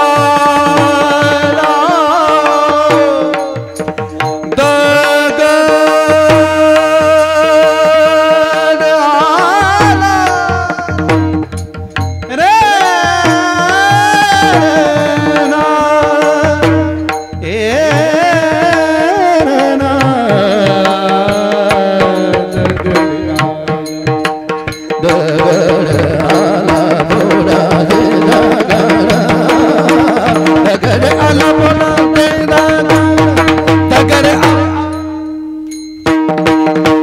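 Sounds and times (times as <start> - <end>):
person singing: 0.0 - 11.6, 12.2 - 23.8, 24.9 - 35.4
tabla drumming: 0.0 - 37.0.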